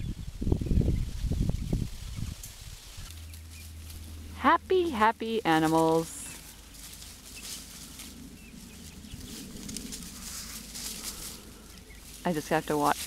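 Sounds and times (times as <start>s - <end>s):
rustling in dry leaves: 0.0s - 13.0s.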